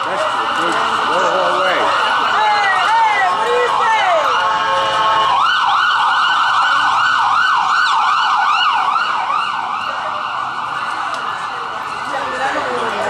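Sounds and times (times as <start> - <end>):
siren yelping: 0.0 - 12.8.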